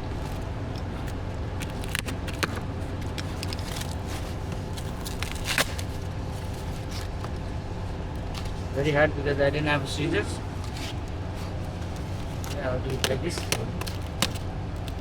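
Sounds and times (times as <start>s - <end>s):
plastic packaging crackling: 0.0s - 8.9s, 9.7s - 15.0s
low background hum: 0.0s - 15.0s.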